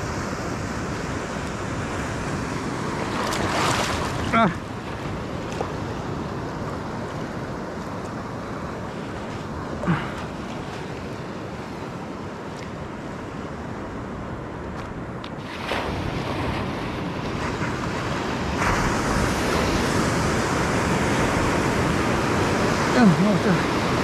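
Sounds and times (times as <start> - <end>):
surf breaking on a reef: 0.0 - 24.0.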